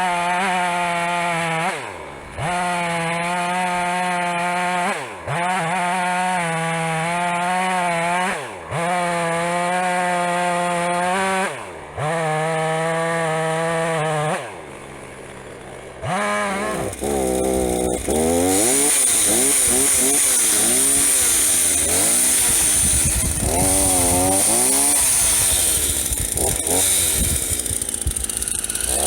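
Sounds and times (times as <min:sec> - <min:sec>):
chainsaw cutting firewood: 0:00.0 - 0:29.0.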